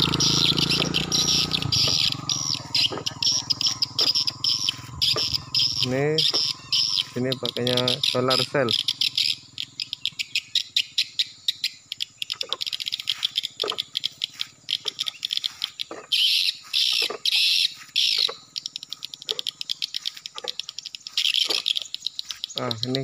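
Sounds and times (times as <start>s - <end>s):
swiftlets twittering: 0.0s - 23.0s.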